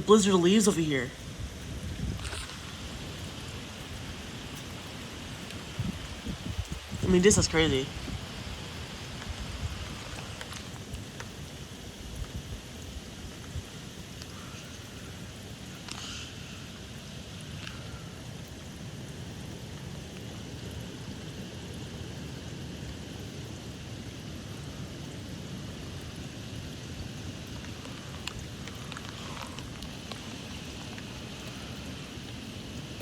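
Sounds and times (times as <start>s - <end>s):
rain falling in gusty squall: 0.0s - 33.0s.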